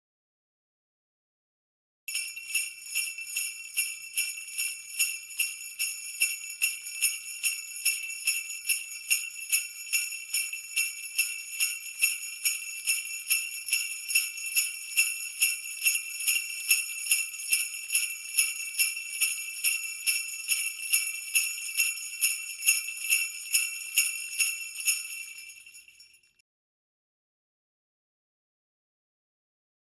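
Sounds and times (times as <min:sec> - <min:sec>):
sleigh bells shaking: 0:02.1 - 0:26.4.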